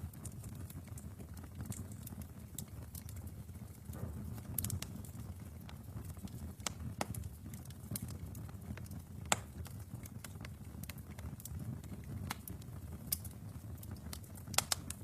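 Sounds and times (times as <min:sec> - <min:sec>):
fire crackling and popping: 0:00.0 - 0:15.0
wood fire burning: 0:00.0 - 0:15.0.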